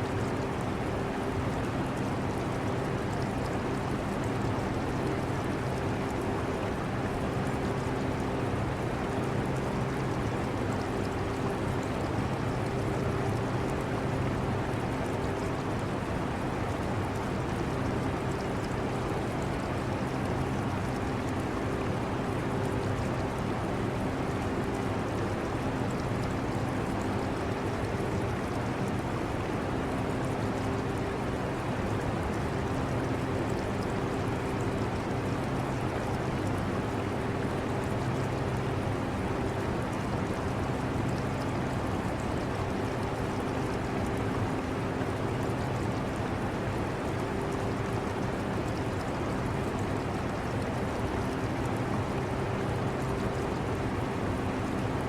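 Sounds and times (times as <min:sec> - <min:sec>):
aquarium water trickling: 0:00.1 - 0:55.0.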